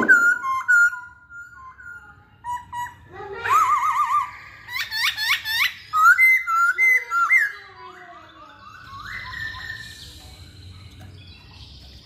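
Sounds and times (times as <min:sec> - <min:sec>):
bird singing varied song: 0:00.0 - 0:12.0.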